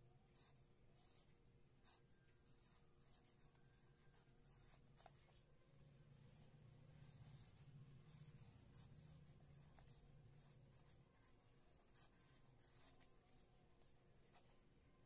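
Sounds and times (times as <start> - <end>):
marker scratching on paper: 0.4 - 5.5, 6.4 - 14.5.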